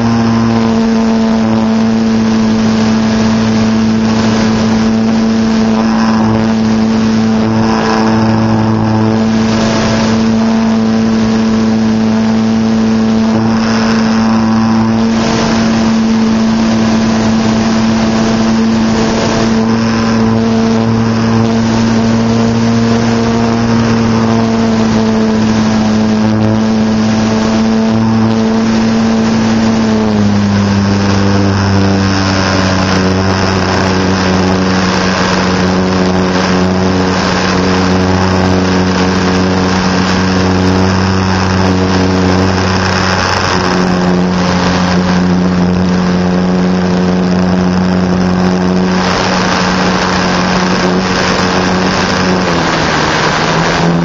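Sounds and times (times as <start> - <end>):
model airplane motor and propeller: 0.0 - 54.0.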